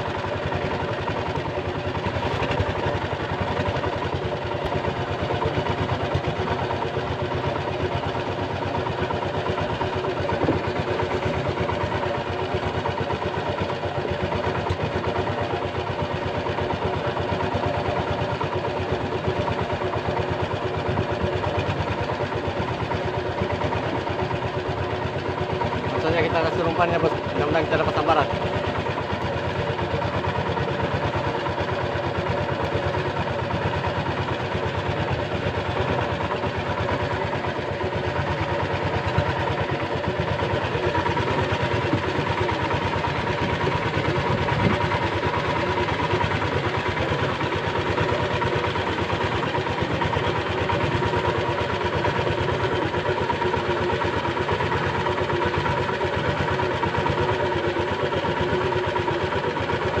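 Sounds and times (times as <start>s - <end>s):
boat engine droning: 0.0s - 60.0s.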